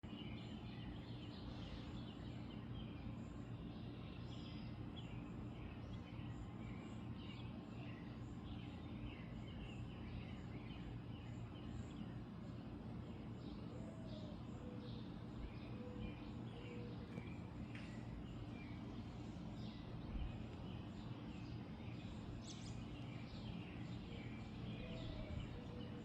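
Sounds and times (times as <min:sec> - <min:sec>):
steady low hum: 0:00.0 - 0:26.0
birds chirping and calling: 0:03.8 - 0:26.0.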